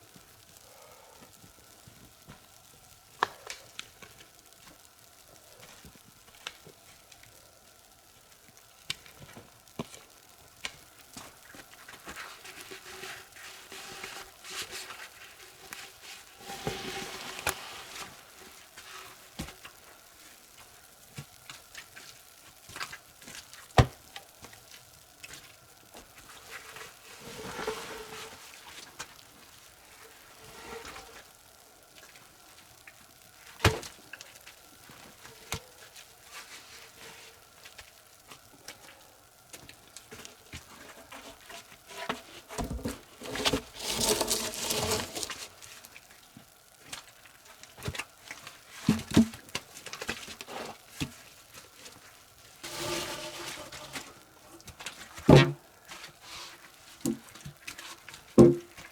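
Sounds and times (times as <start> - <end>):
food sizzling in a pan: 0.0 - 58.5
wood fire crackling: 0.0 - 58.9.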